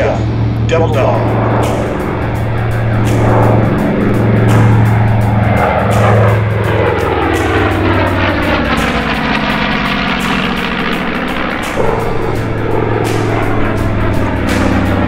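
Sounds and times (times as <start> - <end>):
propeller plane passing: 0.0 - 15.0.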